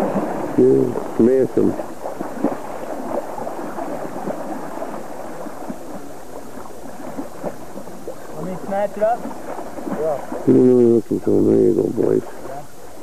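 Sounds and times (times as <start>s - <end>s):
creek water gurgling: 0.0s - 13.0s
man wading through water: 0.0s - 13.0s.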